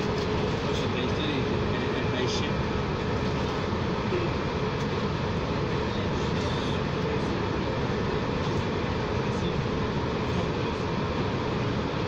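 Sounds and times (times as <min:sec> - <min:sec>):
metro train running in tunnel: 0:00.0 - 0:12.0.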